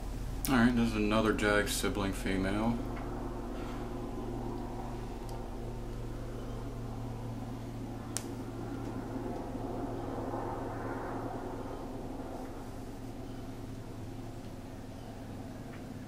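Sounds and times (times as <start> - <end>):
mechanical hum and whir: 0.0 - 16.0.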